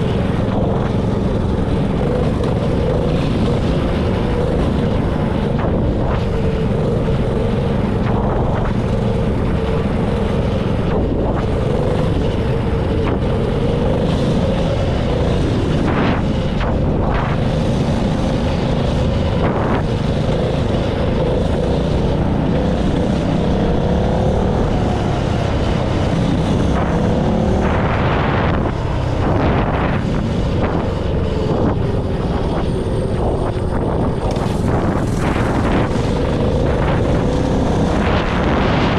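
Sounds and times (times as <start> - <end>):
small engine running: 0.0 - 38.9
wind buffeting microphone: 0.0 - 38.9.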